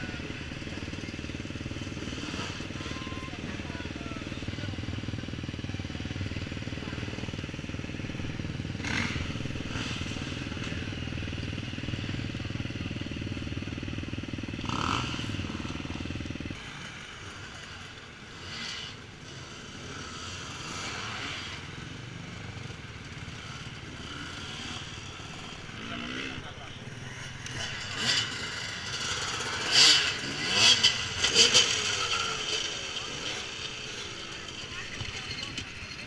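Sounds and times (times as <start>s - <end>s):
dirt bike engine idling: 0.0s - 36.0s
faint dirt bikes running: 0.0s - 36.0s.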